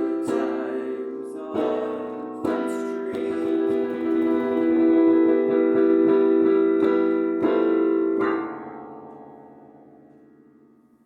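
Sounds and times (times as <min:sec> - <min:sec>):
piano keyboard music: 0:00.0 - 0:11.0.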